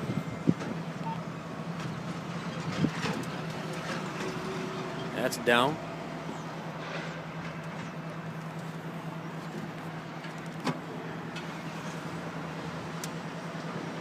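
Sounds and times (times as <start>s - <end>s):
truck engine and hydraulics droning: 0.0s - 14.0s.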